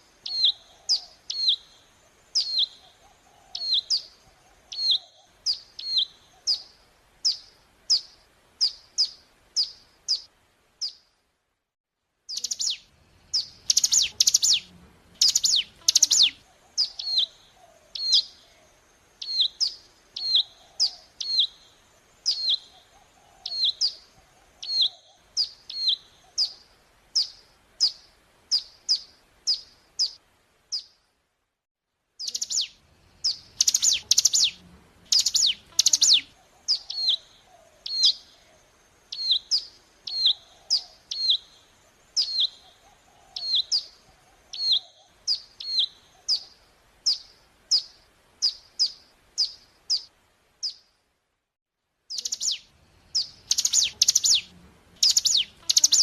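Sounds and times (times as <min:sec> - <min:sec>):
bird chirping: 0:00.0 - 0:11.1, 0:12.3 - 0:31.0, 0:32.2 - 0:51.0, 0:52.1 - 0:56.0.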